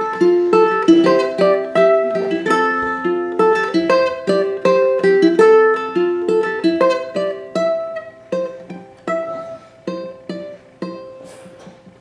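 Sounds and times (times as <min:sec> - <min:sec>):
ukulele picked notes: 0:00.0 - 0:12.0.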